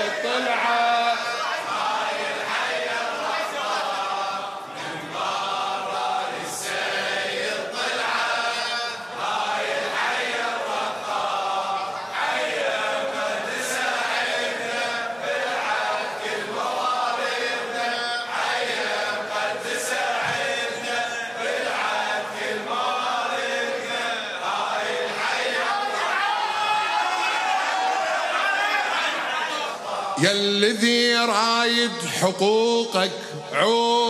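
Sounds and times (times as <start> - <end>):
men chanting a lament: 0.0 - 34.0.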